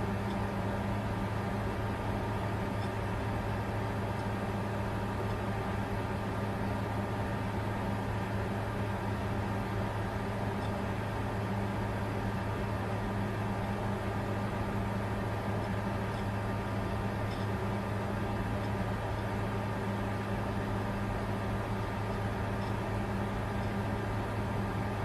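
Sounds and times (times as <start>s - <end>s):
computer fan whirring: 0.0s - 25.0s.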